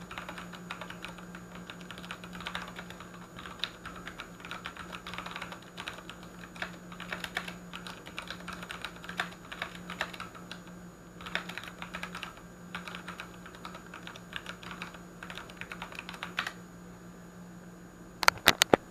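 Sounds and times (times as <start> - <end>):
typing on a mechanical keyboard: 0.0 - 16.6
faint low hum: 0.0 - 18.9.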